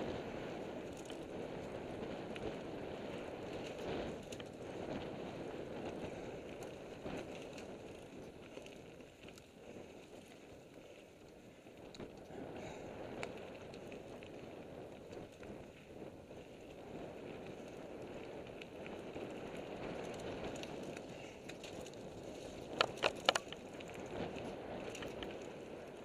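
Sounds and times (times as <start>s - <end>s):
bike clicks and rattles: 0.0s - 26.0s.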